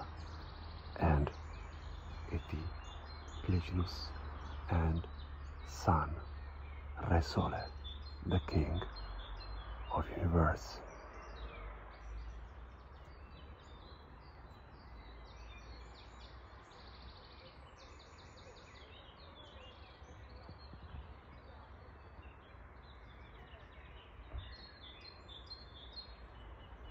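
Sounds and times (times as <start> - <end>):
small songbirds singing: 0.0 - 26.9.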